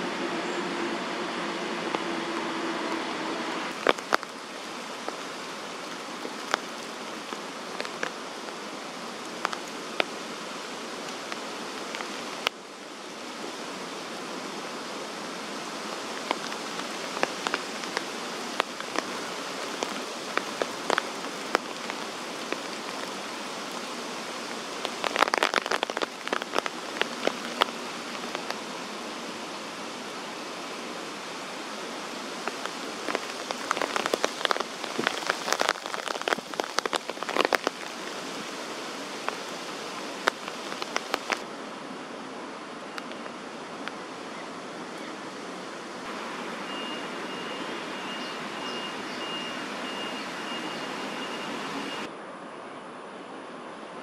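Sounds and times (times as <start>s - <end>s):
rain falling through foliage: 0.0s - 53.8s.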